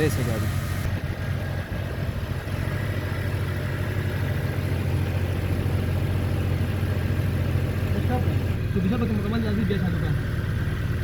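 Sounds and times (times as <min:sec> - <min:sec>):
car engine idling fast: 0:00.0 - 0:11.0.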